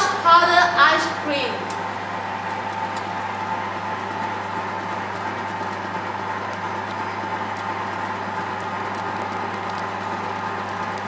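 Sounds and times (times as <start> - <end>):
ice cream freezer humming: 0.0 - 11.0.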